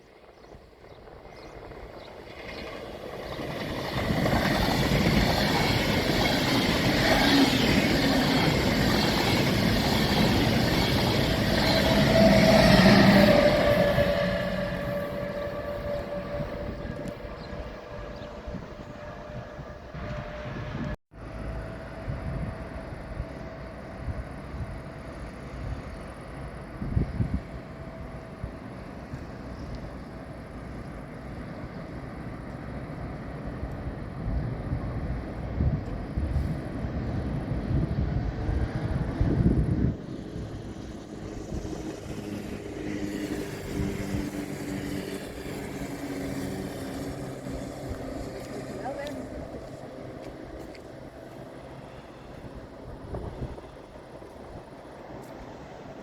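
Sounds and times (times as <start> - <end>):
train running past: 0.0 - 56.0.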